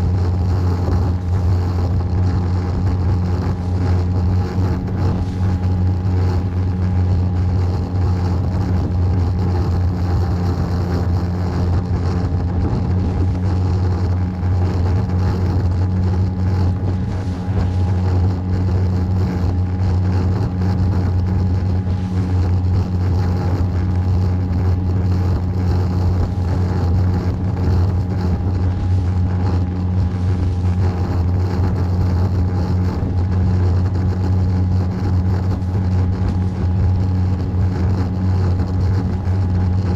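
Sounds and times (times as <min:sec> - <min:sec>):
boat engine humming: 0:00.0 - 0:39.9
rush of boat through water: 0:00.0 - 0:39.9.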